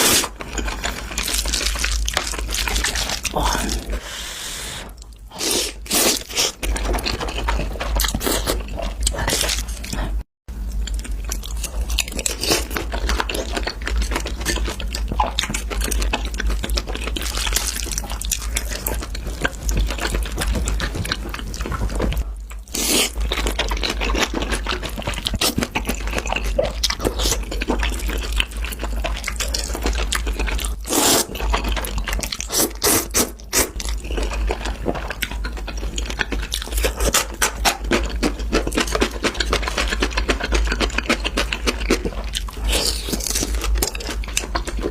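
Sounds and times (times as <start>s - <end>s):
food crunching: 0.0s - 4.0s, 4.9s - 44.9s
wet chewing and smacking: 0.3s - 3.8s, 4.9s - 44.9s.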